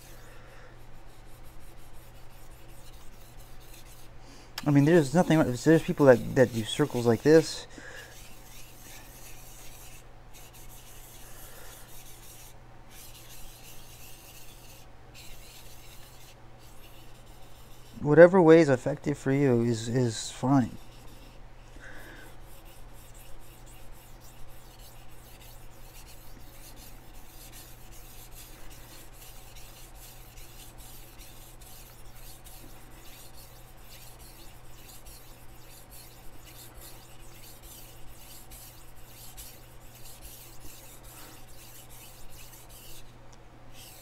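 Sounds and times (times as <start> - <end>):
knife rasping on whetstone: 0.0 - 18.0, 20.6 - 43.1, 43.7 - 44.0.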